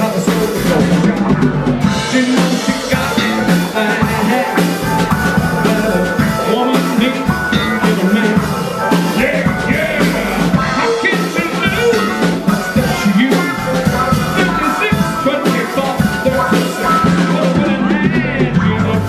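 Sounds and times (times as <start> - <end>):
drum kit beat: 0.0 - 19.0
rock band playing: 0.0 - 19.0.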